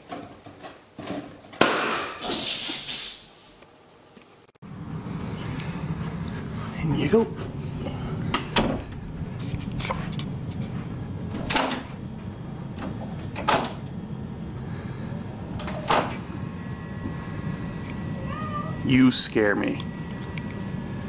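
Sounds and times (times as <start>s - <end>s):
low steady hum: 3.9s - 21.0s.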